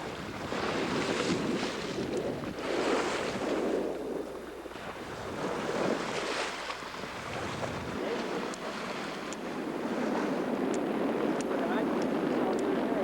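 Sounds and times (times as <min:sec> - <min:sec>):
water splashing along boat hull: 0:00.0 - 0:13.0
wind buffeting microphone: 0:00.0 - 0:13.0.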